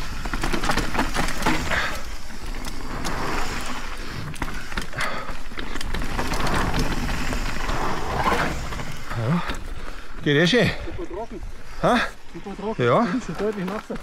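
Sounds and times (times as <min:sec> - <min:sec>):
bike clattering over bumps: 0:00.0 - 0:12.0, 0:13.0 - 0:14.0
bike tyres rolling on dirt: 0:00.0 - 0:14.0.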